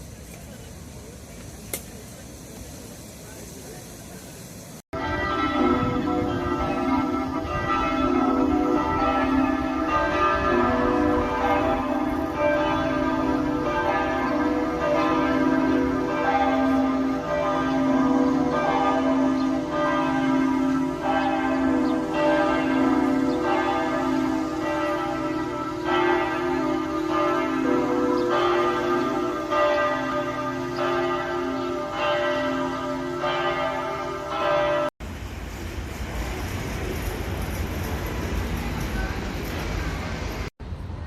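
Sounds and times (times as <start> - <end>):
bells ringing: 5.0 - 35.0, 36.0 - 40.5.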